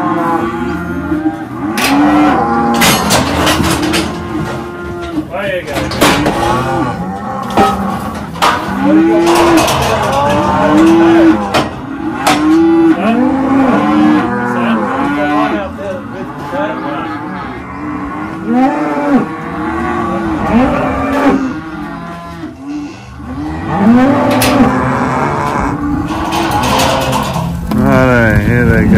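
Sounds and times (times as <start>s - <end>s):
cattle bawling: 0.0s - 28.4s.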